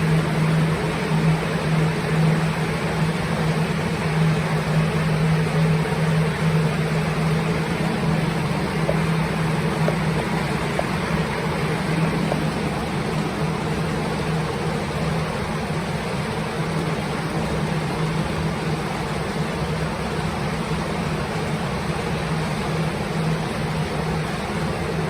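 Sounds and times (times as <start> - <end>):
blower fans rushing air: 0.0 - 25.0.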